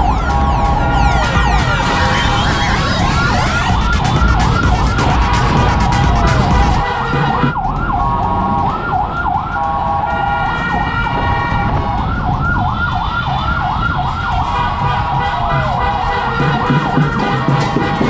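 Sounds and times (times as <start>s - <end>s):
electronic siren yelping: 0.0s - 18.0s
traffic: 0.0s - 18.0s.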